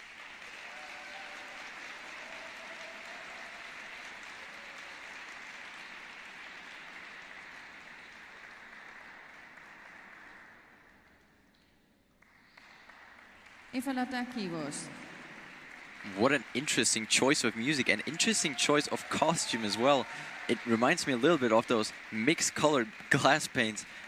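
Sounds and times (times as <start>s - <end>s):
audience applauding: 0.0s - 11.1s, 12.2s - 24.0s.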